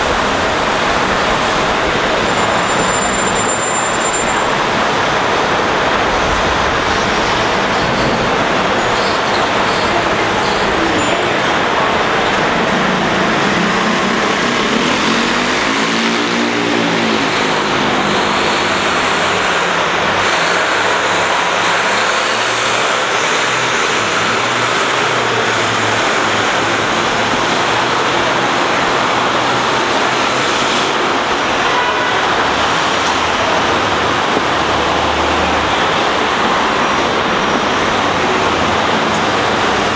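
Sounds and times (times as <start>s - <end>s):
dense city traffic: 0.0s - 39.9s
heavy diesel engine accelerating: 0.0s - 39.9s.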